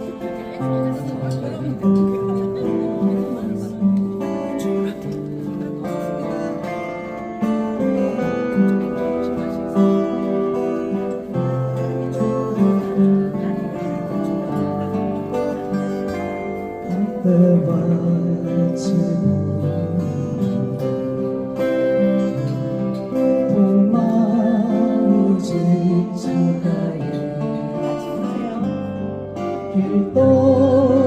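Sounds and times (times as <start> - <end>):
acoustic guitar ballad intro: 0.0 - 31.0.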